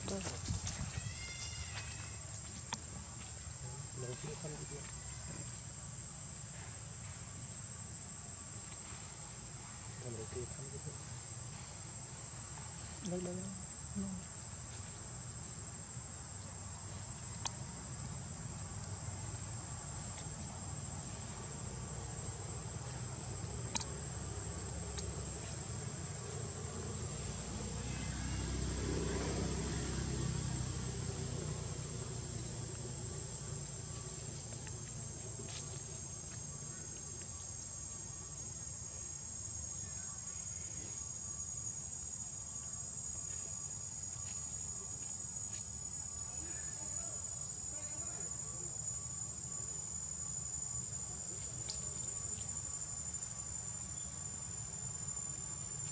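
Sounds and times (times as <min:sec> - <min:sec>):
insect chorus buzzing: 0:00.0 - 0:55.9
lower insect tone: 0:00.0 - 0:55.9.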